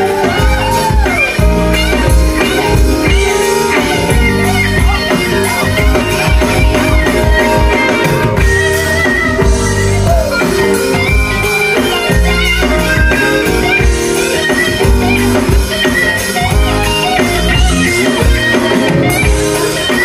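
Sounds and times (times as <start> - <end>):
low bass notes: 0.0 - 19.8
live band playing dance music: 0.0 - 20.0.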